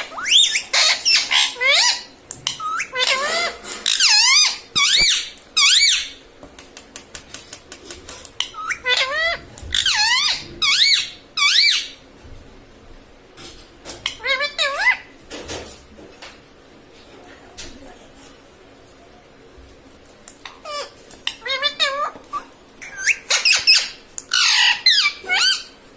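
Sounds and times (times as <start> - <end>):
parrot calls and chatter: 0.0 - 25.9.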